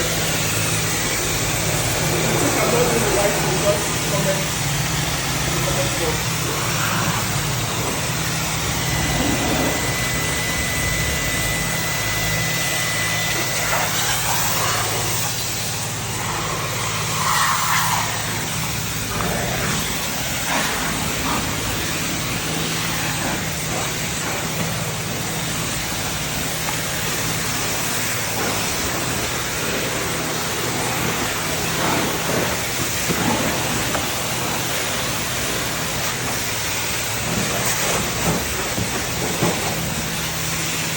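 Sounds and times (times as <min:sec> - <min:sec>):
low pump hum: 0:00.0 - 0:40.9
spray wand hissing water: 0:00.0 - 0:40.9.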